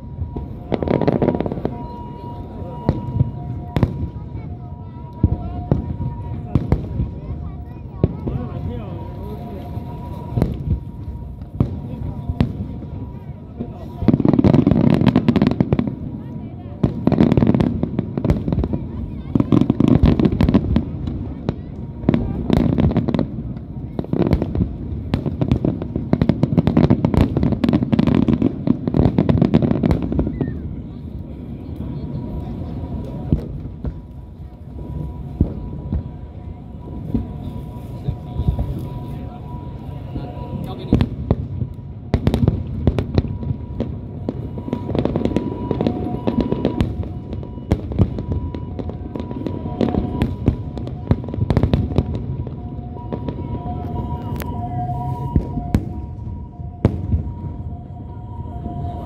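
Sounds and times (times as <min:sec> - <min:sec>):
deep firework booms: 0:00.0 - 0:59.0.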